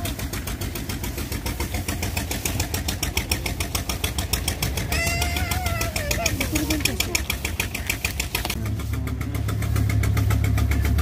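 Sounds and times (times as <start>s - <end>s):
engine running with fast knock: 0.0s - 11.0s.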